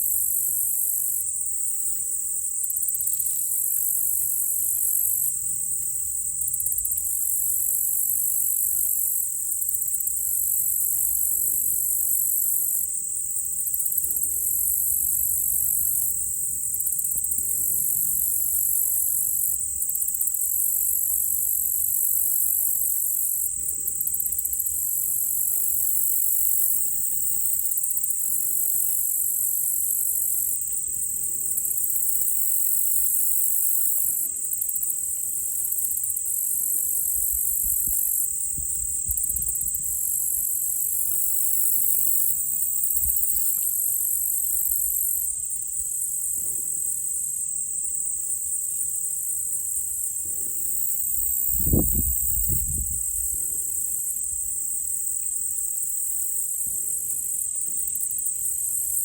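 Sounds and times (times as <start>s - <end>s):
insects chirping chorus: 0.0s - 59.0s.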